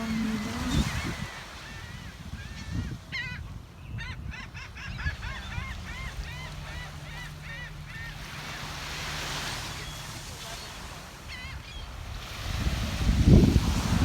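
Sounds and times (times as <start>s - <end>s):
seagulls calling: 0.0s - 12.2s.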